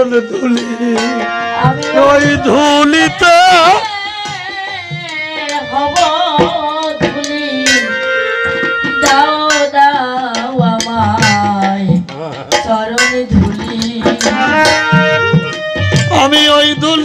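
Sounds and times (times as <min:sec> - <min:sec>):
accompanying instruments: 0:00.0 - 0:17.0
person singing devotional song: 0:00.0 - 0:17.0.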